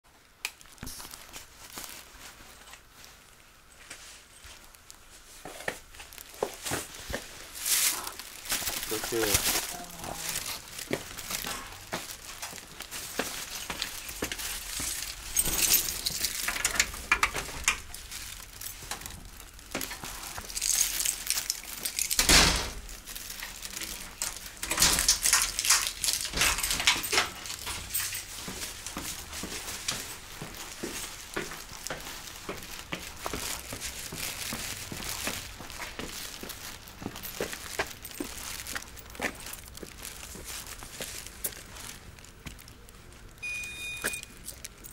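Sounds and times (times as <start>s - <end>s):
clothing and bag rustling: 0.6s - 44.9s.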